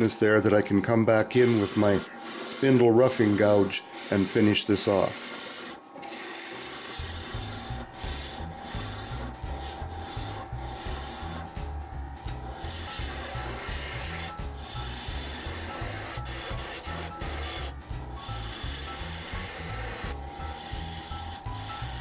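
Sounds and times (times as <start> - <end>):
lathe gouge scraping wood: 1.1 - 22.0.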